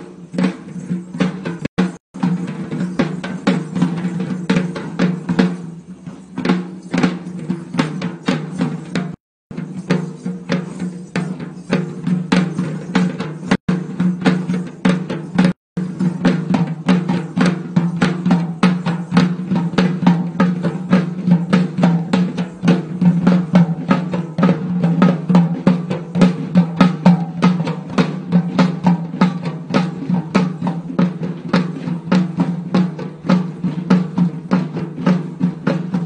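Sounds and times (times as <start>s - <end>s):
procession drums beating: 0.0s - 36.0s.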